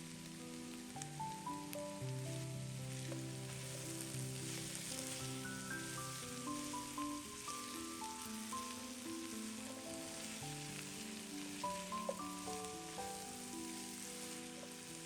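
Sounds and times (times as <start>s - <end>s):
food sizzling in frying pan: 0.0s - 15.0s
music of slow held notes: 0.0s - 15.0s.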